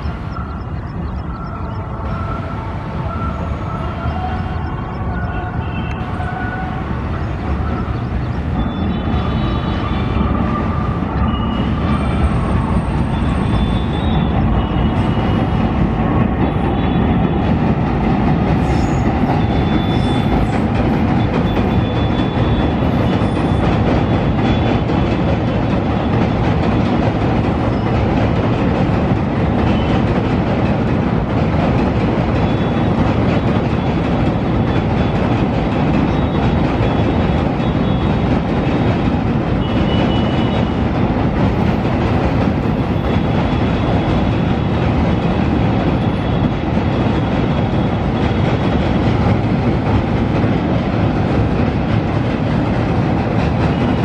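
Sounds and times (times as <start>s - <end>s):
train wheels rumbling on bridge: 0.0s - 54.0s.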